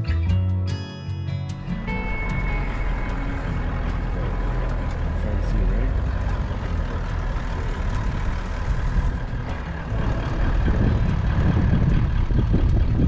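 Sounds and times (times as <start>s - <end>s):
vehicle engine rumbling: 1.4s - 13.0s.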